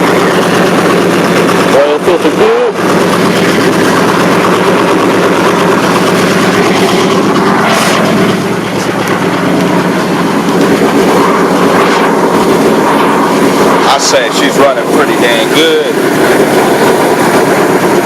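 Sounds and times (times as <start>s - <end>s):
engine idling through exhaust: 0.0s - 18.0s.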